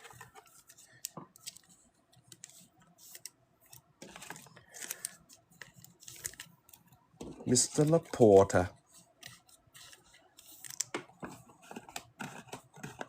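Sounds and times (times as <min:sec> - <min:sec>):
trading cards clicking and rustling: 0:00.0 - 0:08.6, 0:09.2 - 0:13.0.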